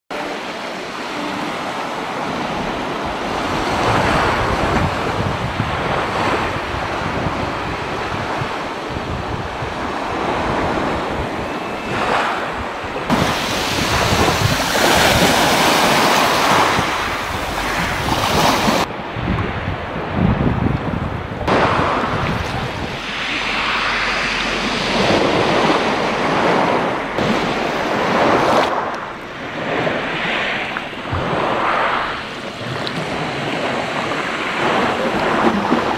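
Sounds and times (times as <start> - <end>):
sea waves washing on shore: 0.1 - 35.9
wind buffeting microphone: 1.4 - 35.9.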